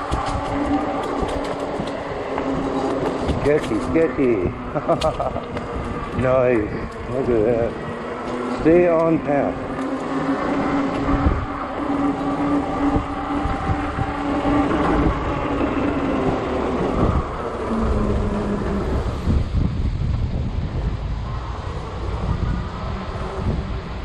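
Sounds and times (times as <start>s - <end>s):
steady motor hum: 0.0s - 24.0s
wind buffeting microphone: 0.0s - 24.0s.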